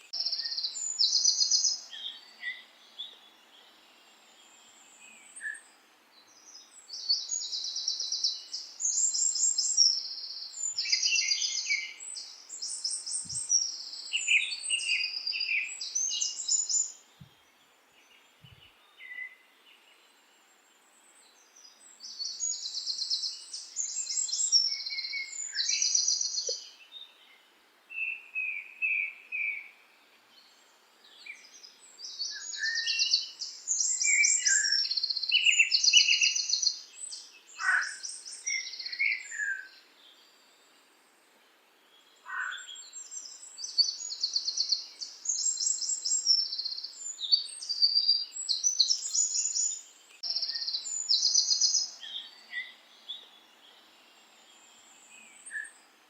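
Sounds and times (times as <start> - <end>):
songbirds trilling: 0.0 - 20.0, 21.0 - 27.4, 28.0 - 40.5, 42.0 - 56.0
faint background hiss: 0.0 - 56.0.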